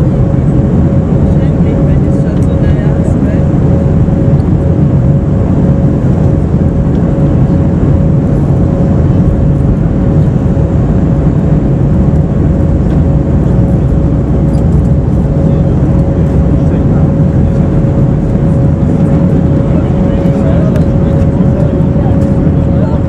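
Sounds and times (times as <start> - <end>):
airliner cabin rumble: 0.0 - 23.0
mid-pitched hum: 0.0 - 23.0.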